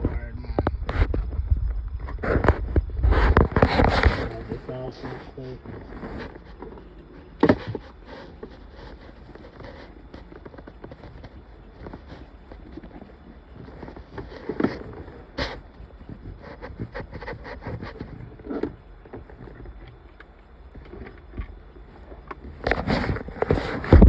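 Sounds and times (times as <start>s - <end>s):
rustling: 0.0s - 24.0s.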